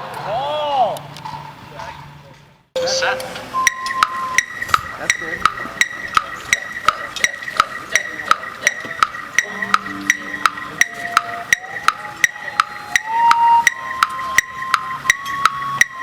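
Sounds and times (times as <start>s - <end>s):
band instruments holding notes: 2.8s - 16.0s
electronic metronome clicking: 3.2s - 16.0s.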